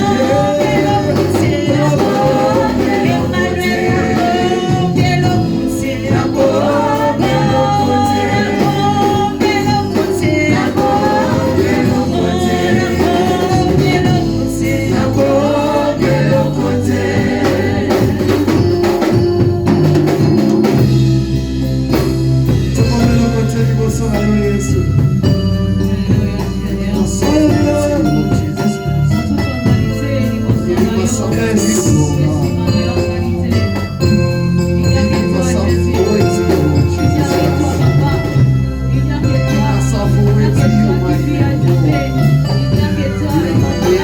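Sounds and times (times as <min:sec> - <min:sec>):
band with bass and drums: 0:00.0 - 0:44.0
choir singing gospel song: 0:00.0 - 0:44.0.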